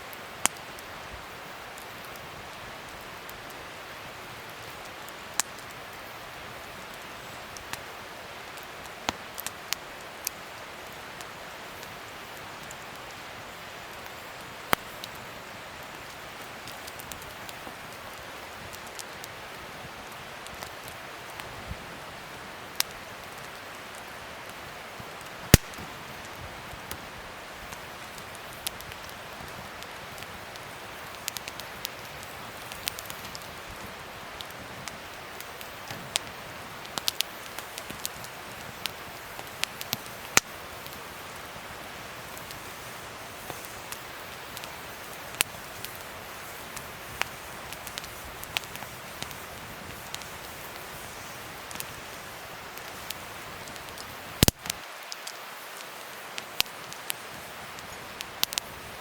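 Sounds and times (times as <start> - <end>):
wood fire hissing and crackling: 0.0 - 59.0
fire popping: 0.1 - 59.0.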